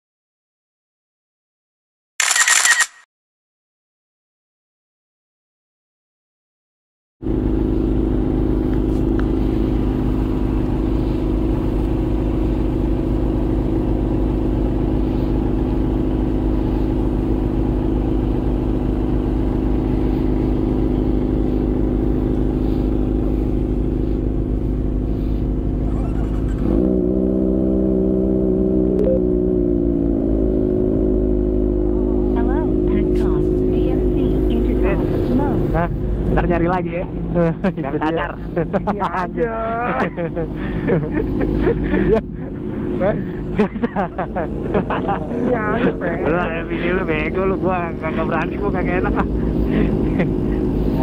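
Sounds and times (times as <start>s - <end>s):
motorcycle engine running: 7.2s - 51.0s
road and wind rumble: 7.2s - 51.0s.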